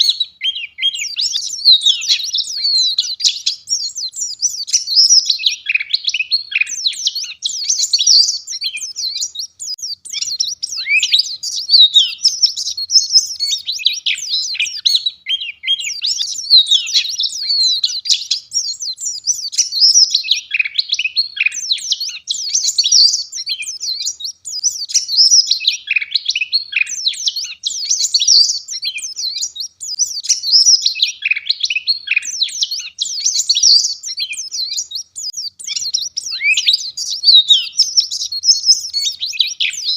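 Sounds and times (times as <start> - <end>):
bird fast high chirps and trills: 0.0 - 39.9.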